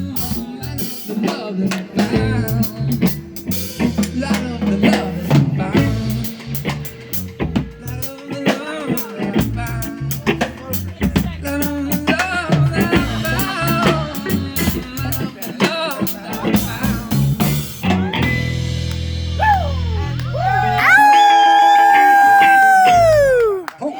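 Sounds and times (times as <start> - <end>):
person singing: 0.0 - 18.3, 19.4 - 23.9
drum kit beat: 0.0 - 23.7
bass: 0.0 - 23.8
guitar: 0.0 - 23.9.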